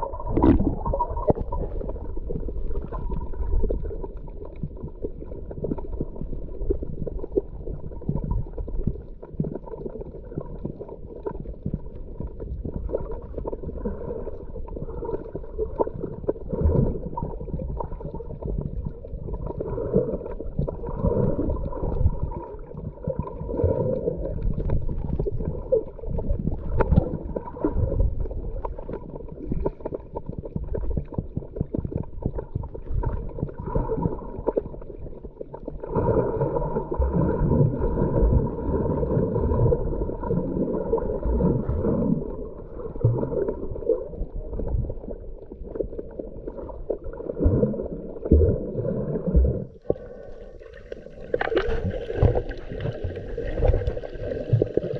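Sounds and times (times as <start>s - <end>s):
underwater bubbles gurgling: 0.0s - 54.9s.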